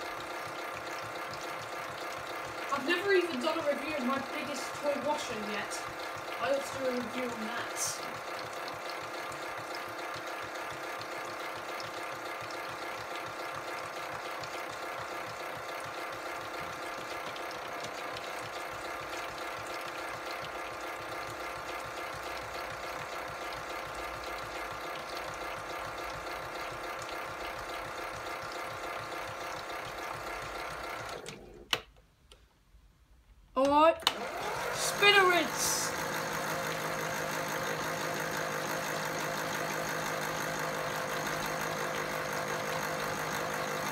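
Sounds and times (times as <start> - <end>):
toy washing machine motor whirring: 0.0 - 31.8, 33.7 - 43.9.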